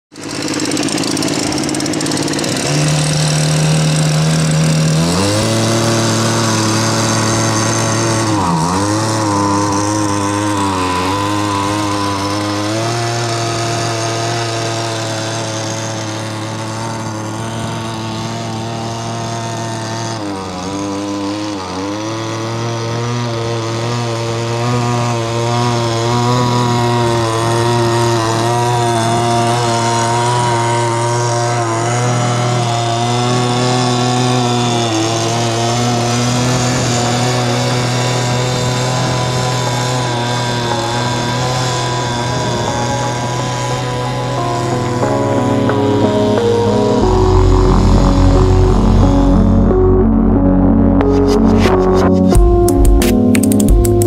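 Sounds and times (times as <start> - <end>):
small two-stroke engine buzzing: 0.0 - 54.0.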